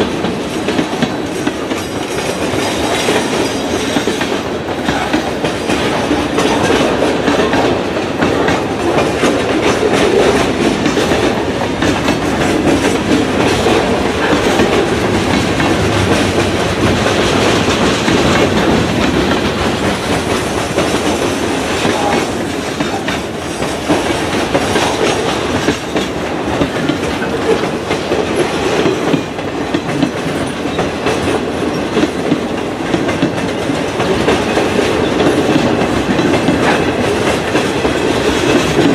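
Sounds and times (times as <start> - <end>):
freight train rumbling: 0.0 - 38.9
wheels clacking over rail joints: 0.0 - 38.9.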